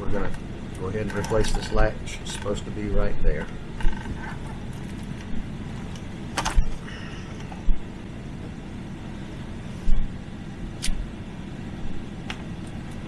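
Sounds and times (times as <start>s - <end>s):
air-conditioning blower hum: 0.0s - 13.0s.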